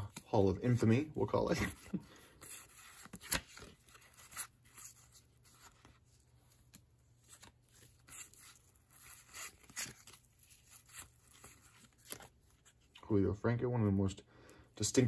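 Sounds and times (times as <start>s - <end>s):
cards flicking and rustling: 0.0s - 13.0s.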